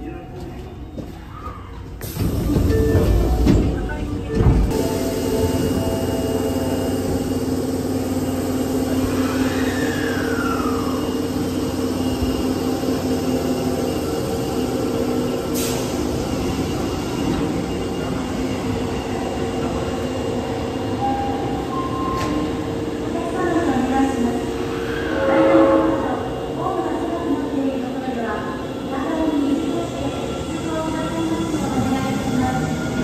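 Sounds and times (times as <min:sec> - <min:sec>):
subway train running noise: 0:00.0 - 0:33.0.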